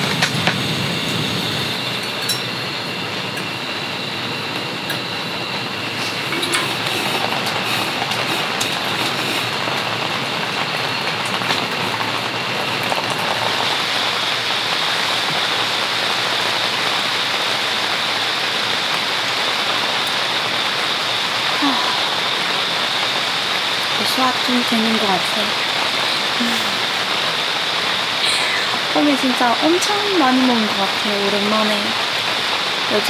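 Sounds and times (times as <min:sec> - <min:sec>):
rain on a tent: 0:00.0 - 0:33.0.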